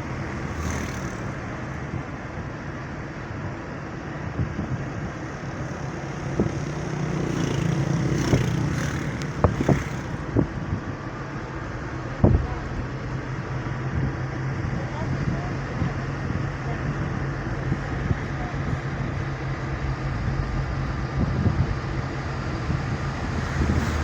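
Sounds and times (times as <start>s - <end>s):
motor vehicle running: 0.0s - 24.0s.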